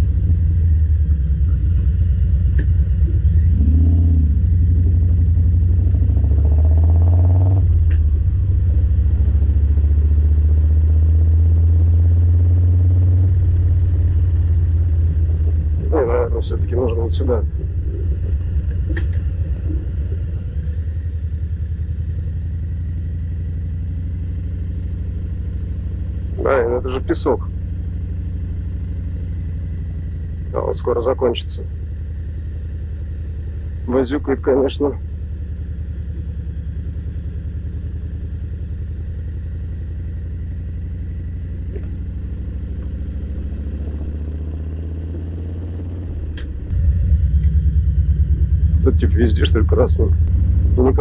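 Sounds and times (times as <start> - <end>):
motorcycle engine running at low revs: 0.0 - 51.0.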